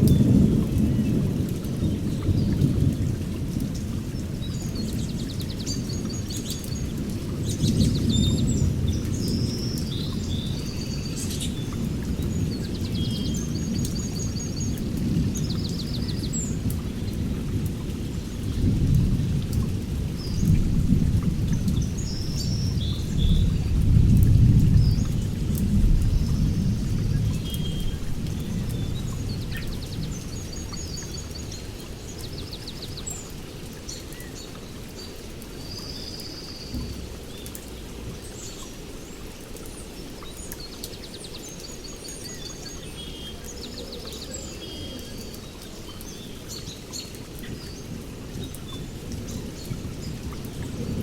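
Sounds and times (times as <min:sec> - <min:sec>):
songbirds chirping and trilling: 0:00.0 - 0:51.0.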